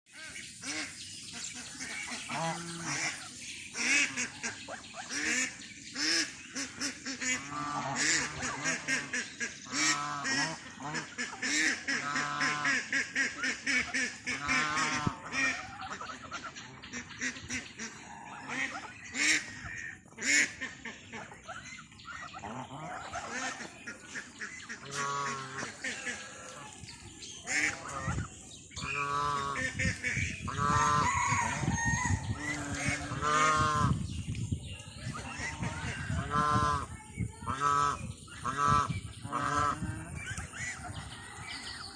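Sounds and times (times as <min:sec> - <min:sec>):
geese honking: 0:00.3 - 0:34.1, 0:35.0 - 0:41.4.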